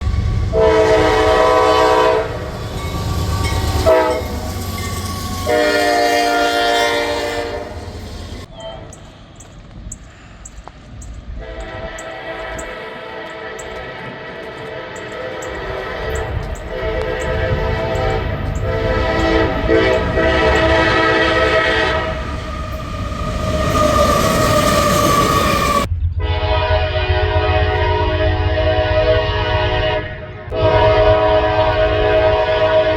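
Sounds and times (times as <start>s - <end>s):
locomotive air horn chord: 0.0s - 4.6s, 5.2s - 8.5s, 11.4s - 32.9s
rumble of moving train: 0.0s - 32.9s.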